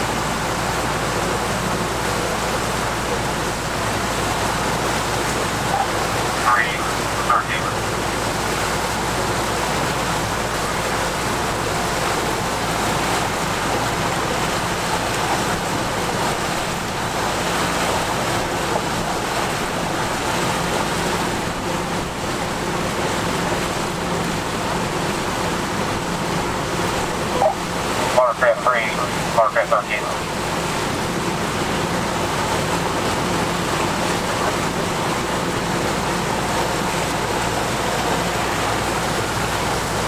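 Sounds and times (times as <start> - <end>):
boat engine humming: 0.0 - 40.0
water rushing along hull: 0.0 - 40.0.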